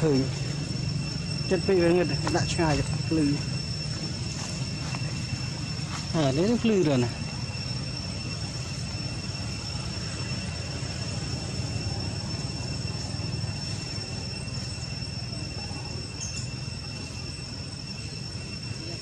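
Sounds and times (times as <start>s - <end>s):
thin high-pitched whine: 0.0s - 19.0s.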